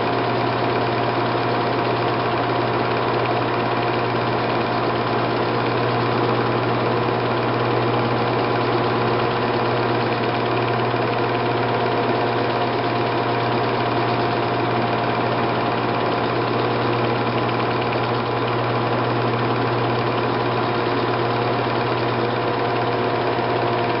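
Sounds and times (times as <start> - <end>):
film projector whirring: 0.0 - 24.0.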